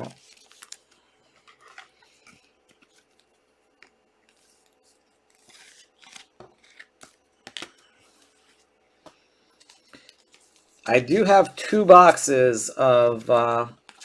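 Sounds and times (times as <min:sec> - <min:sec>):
cards rustling and clicking: 0:00.0 - 0:12.2, 0:13.0 - 0:14.0.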